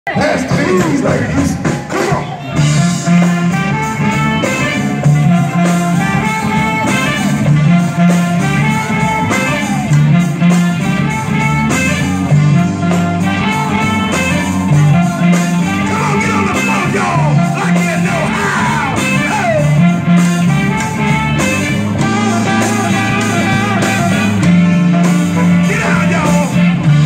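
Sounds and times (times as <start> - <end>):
bass line: 0.1 - 27.0
live band playing: 0.1 - 27.0
saxophone: 0.2 - 27.0.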